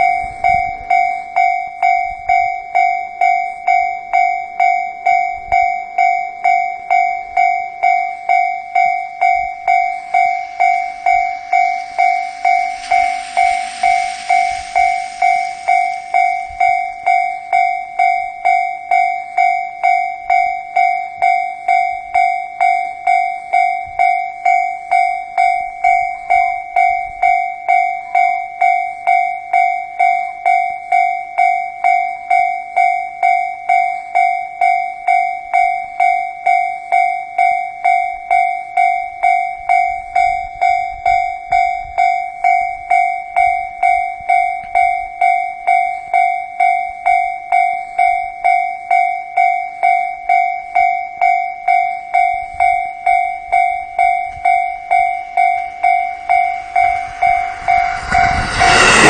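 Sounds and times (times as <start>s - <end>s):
train passing with rail noise: 0.0s - 2.8s, 5.9s - 30.9s, 38.2s - 59.0s
level-crossing warning bell: 0.0s - 59.0s.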